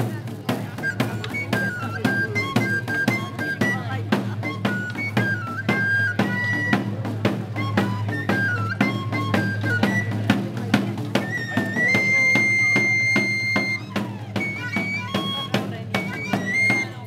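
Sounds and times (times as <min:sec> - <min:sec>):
steady drumbeat: 0:00.0 - 0:17.0
shrill pipe melody: 0:00.8 - 0:10.5, 0:11.2 - 0:17.0.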